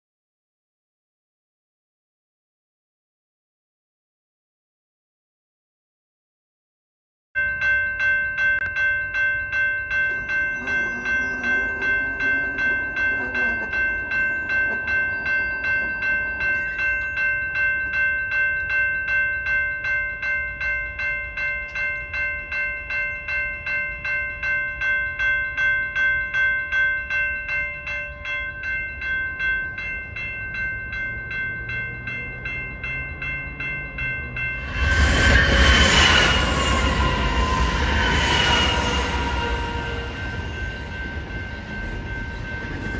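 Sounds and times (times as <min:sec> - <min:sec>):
railroad crossing bell ringing: 0:07.4 - 0:42.9
freight train passing: 0:07.5 - 0:42.9.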